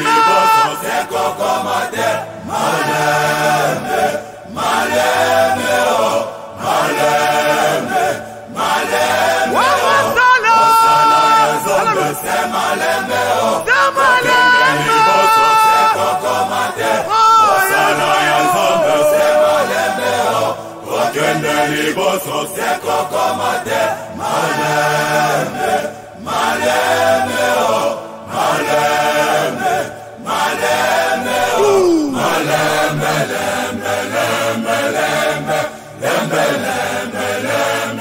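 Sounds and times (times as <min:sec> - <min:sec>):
gospel choir chanting: 0:00.0 - 0:38.0.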